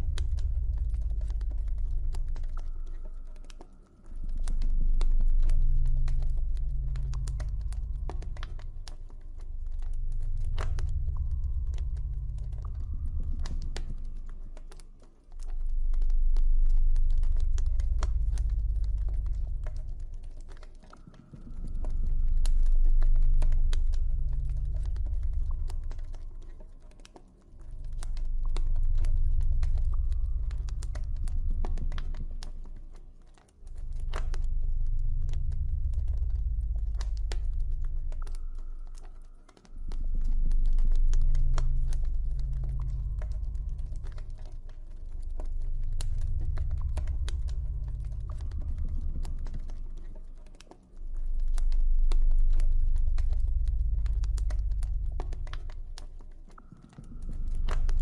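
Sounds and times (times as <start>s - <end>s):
deep low drone: 0.0s - 58.0s
campfire crackling and popping: 9.7s - 58.0s.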